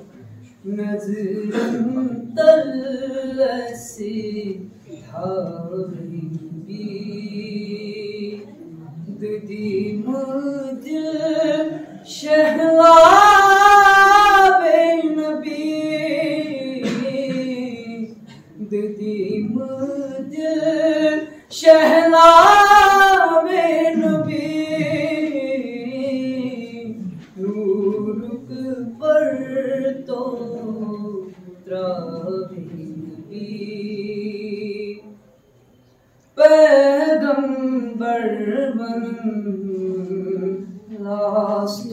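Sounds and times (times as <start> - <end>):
man singing unaccompanied: 0.6 - 35.1, 36.4 - 41.9.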